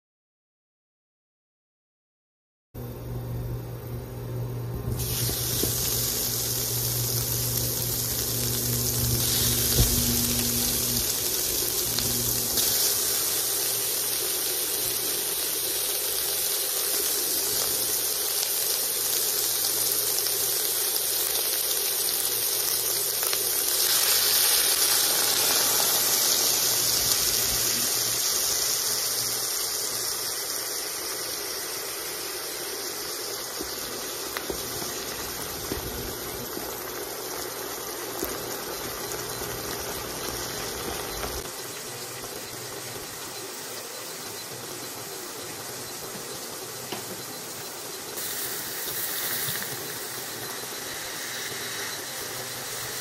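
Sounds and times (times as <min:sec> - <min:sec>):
pork frying in hot oil: 0:04.9 - 0:53.0.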